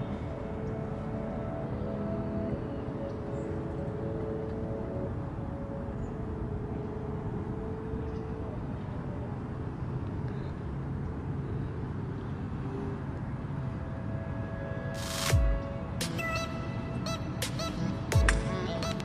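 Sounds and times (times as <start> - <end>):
faint background music: 0.0 - 19.0.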